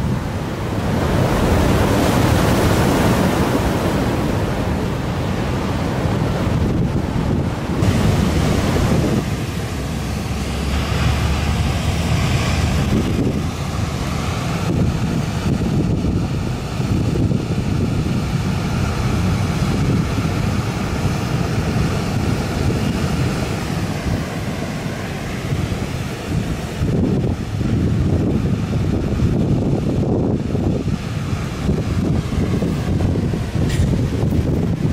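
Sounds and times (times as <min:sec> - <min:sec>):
heavy surf breaking: 0:00.0 - 0:34.9
wind buffeting microphone: 0:00.0 - 0:34.9.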